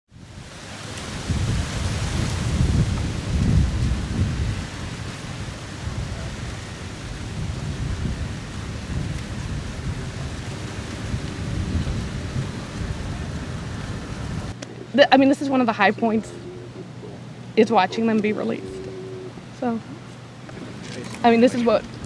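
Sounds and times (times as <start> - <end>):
wind buffeting microphone: 0.1 - 22.0.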